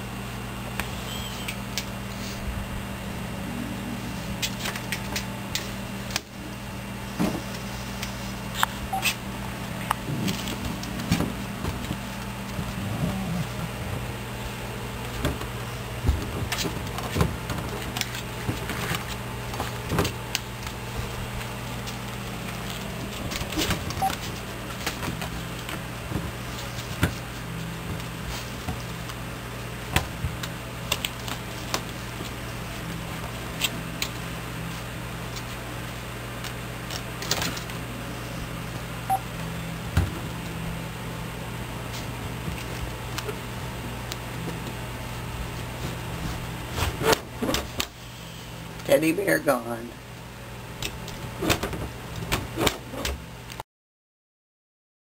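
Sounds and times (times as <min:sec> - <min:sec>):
low electrical hum: 0:00.0 - 0:53.6.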